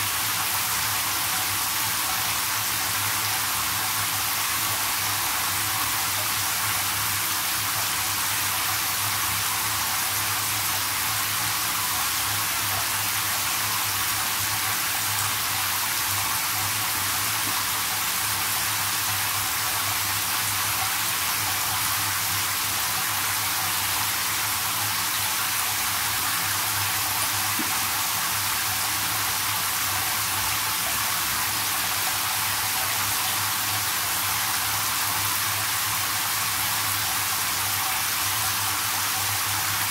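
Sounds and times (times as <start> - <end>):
shower spraying into bathtub: 0.0 - 39.9.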